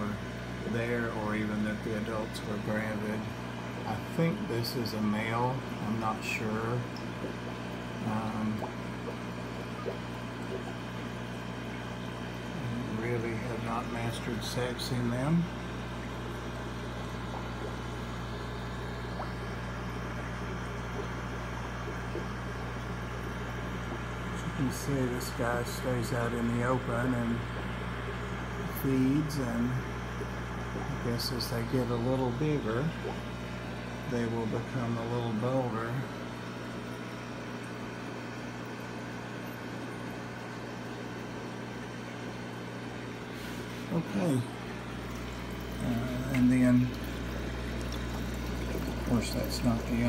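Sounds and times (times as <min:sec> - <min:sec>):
aquarium equipment humming: 0:00.0 - 0:50.0
water bubbling: 0:00.0 - 0:50.0.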